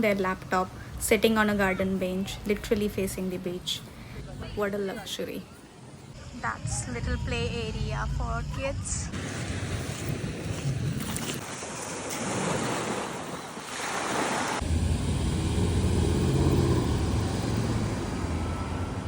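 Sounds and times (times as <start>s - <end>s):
low wind rumble: 0.1s - 11.4s, 14.6s - 19.0s.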